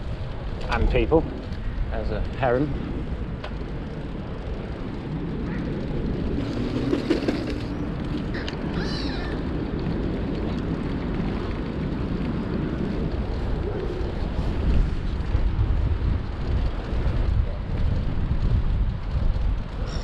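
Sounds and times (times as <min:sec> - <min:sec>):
bicycle riding rumble: 0:00.0 - 0:20.0
wind on microphone: 0:00.0 - 0:20.0.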